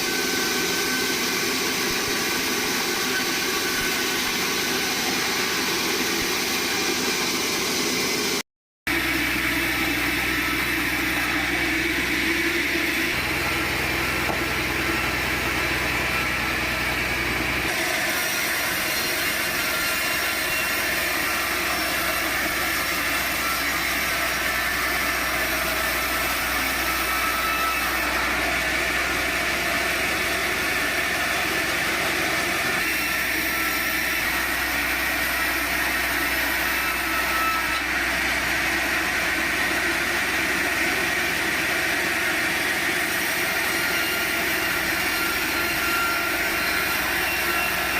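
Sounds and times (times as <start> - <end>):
sawmill saw cutting log: 0.0 - 47.9.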